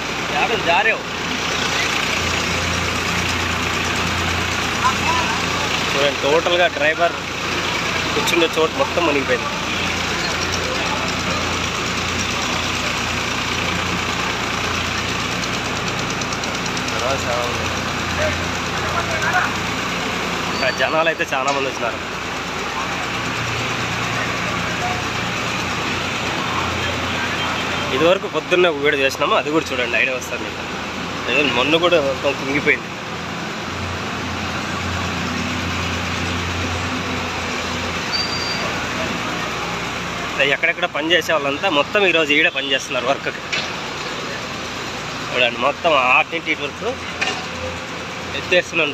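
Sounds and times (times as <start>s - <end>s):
construction machinery engines: 0.0s - 48.9s
street noise: 0.0s - 48.9s.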